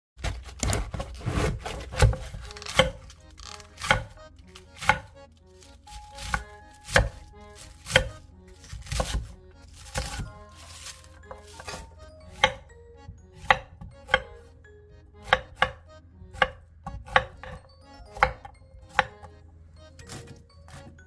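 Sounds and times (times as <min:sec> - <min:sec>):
knife chopping on cutting board: 0:00.2 - 0:05.1, 0:05.9 - 0:12.8, 0:13.4 - 0:14.5, 0:15.2 - 0:19.3, 0:20.0 - 0:20.9.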